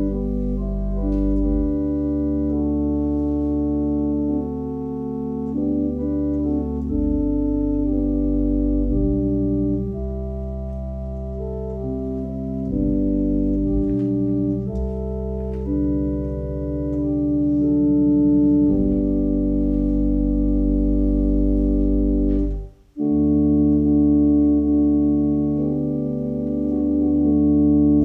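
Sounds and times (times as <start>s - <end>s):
organ playing sustained chords: 0.0s - 28.0s.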